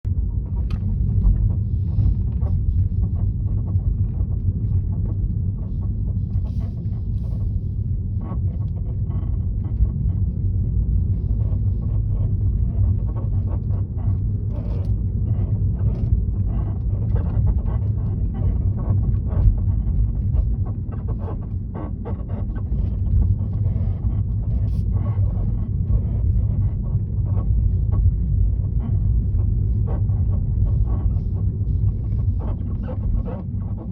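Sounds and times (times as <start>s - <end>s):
moving car rumble: 0.1s - 33.9s.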